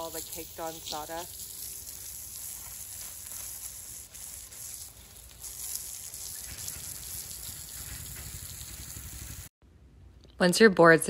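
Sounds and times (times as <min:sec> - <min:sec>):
hose nozzle spraying water on wood: 0:00.0 - 0:09.5.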